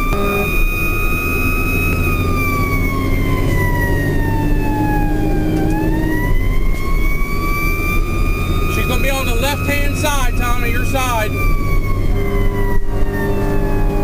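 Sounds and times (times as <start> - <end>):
fire engine siren wailing: 0.0 - 14.0
truck engine drone: 0.0 - 14.0.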